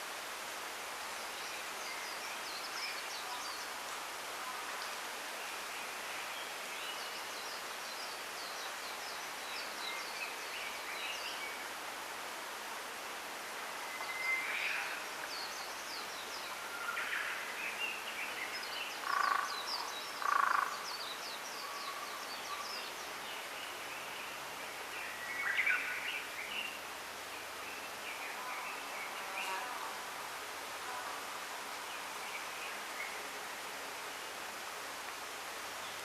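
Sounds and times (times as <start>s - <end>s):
steady outdoor hiss: 0.0s - 36.0s.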